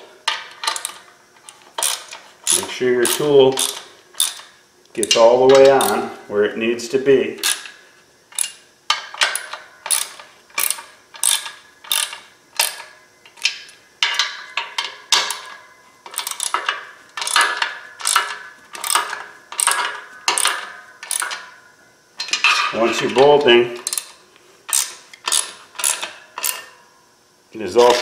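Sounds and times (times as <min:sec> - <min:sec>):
ratchet wrench clicking: 0:00.3 - 0:06.1, 0:07.4 - 0:21.5, 0:22.2 - 0:26.8.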